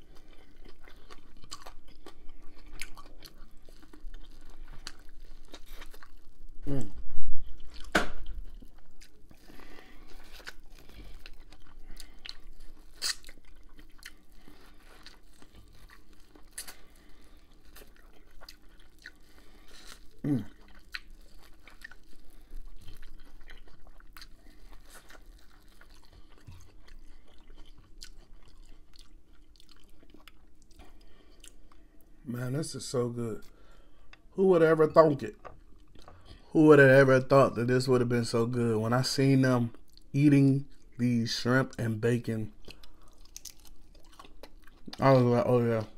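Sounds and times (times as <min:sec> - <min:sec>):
person chewing corn crunchily: 0:00.0 - 0:32.2, 0:35.0 - 0:36.5, 0:42.5 - 0:45.9.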